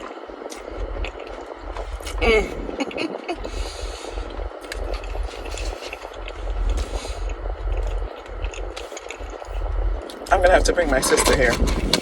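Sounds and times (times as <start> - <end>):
chewing and crunching: 0.0 - 12.0
low rumble: 0.0 - 12.0.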